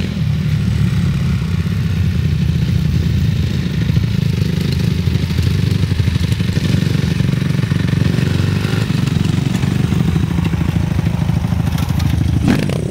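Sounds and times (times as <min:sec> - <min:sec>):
dirt bike engine running: 0:00.0 - 0:12.9.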